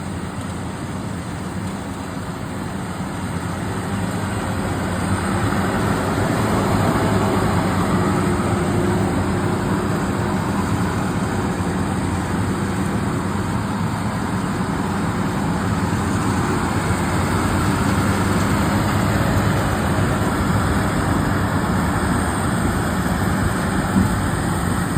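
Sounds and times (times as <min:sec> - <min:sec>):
harvester engine droning: 0:00.0 - 0:24.9.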